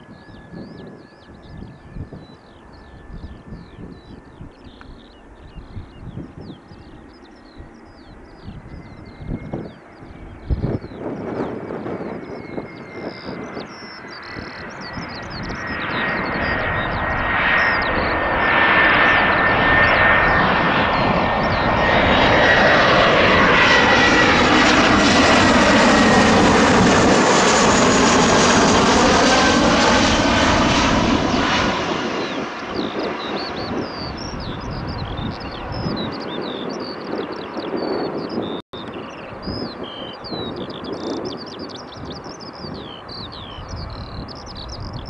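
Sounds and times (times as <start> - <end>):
airliner passing low overhead: 0.0 - 45.0.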